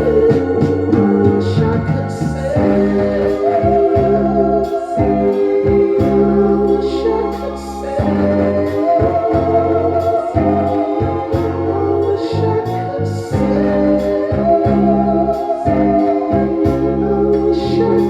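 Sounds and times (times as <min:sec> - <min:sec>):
organ chords: 0:00.0 - 0:18.0
pulsing bass line: 0:00.0 - 0:18.0
wavering melody line: 0:00.0 - 0:18.0.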